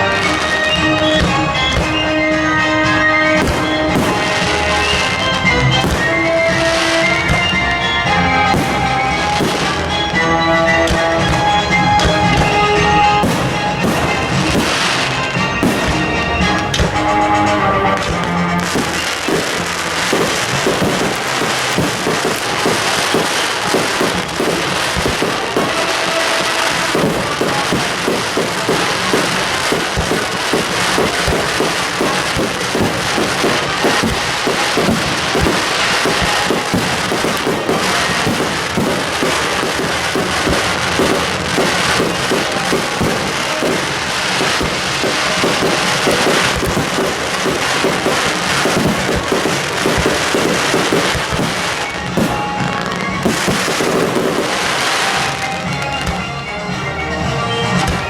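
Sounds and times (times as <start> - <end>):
fireworks crackling and popping: 0.0 - 56.2
music playing: 0.0 - 58.0.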